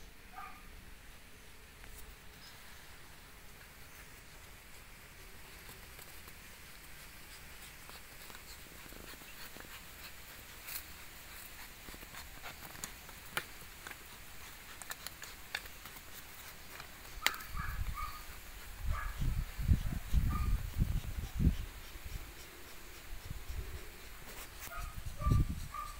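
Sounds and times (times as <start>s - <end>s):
puppies scuffing on dirt: 1.8s - 25.9s.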